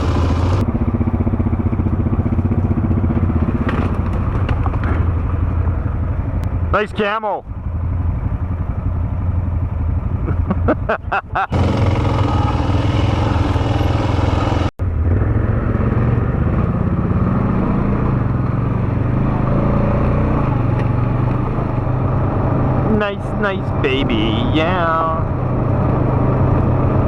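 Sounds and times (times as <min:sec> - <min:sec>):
atv engine droning: 0:00.0 - 0:27.0.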